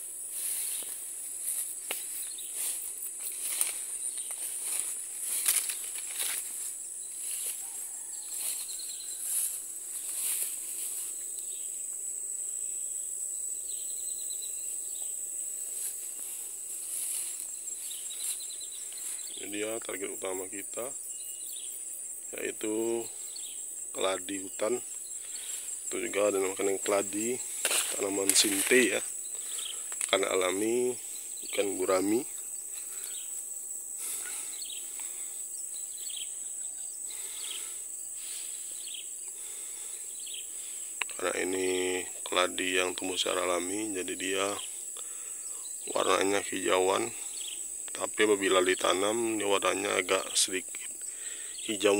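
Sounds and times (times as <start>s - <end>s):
insects droning high-pitched: 0.0s - 51.9s
low pulsing insect trill: 0.0s - 51.9s.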